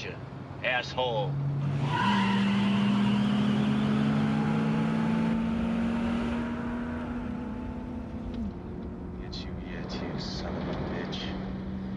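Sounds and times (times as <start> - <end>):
wind and tyre noise: 0.2 - 11.9
car engine running hard: 1.1 - 11.9.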